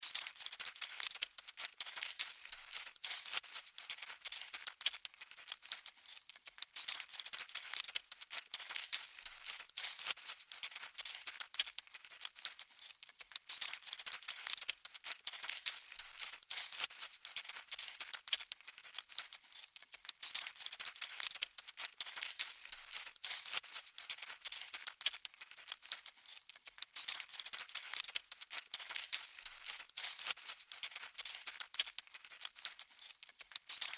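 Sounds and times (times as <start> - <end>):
tiny crisp clicks of insect walking: 0.0 - 33.9.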